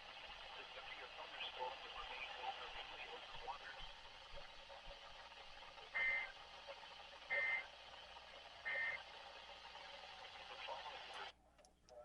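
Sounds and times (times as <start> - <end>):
steady radio hiss: 0.0 - 12.0.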